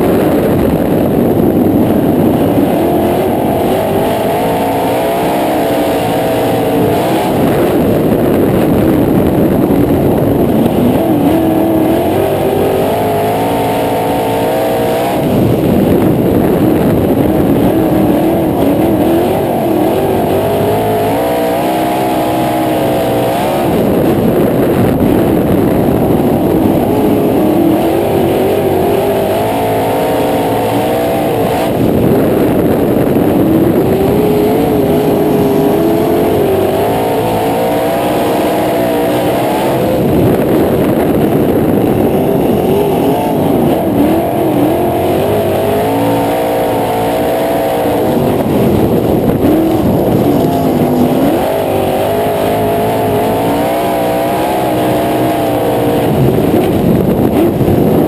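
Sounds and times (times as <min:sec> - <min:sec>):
racing car engine: 0:00.0 - 0:58.0.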